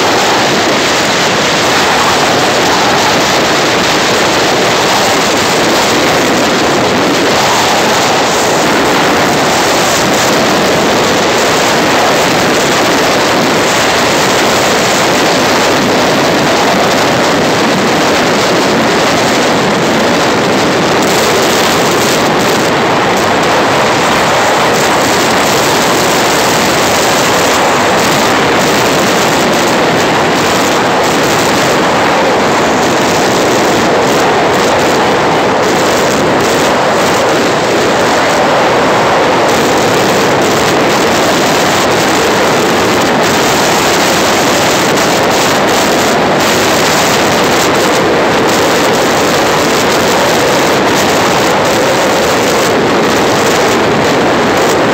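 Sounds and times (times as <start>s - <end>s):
vehicle running at speed: 0.0s - 54.9s
wind rushing over microphone: 0.0s - 54.9s.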